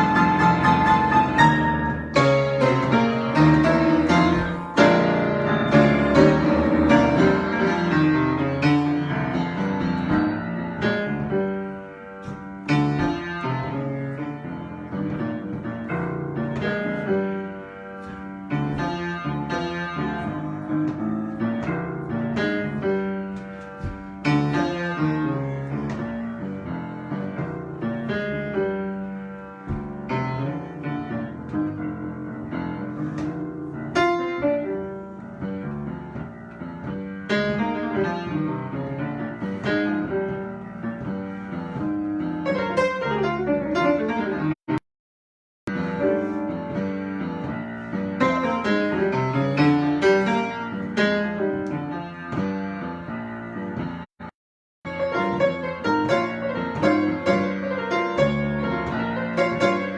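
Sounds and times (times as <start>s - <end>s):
solo piano: 0.0s - 44.8s, 45.7s - 59.9s.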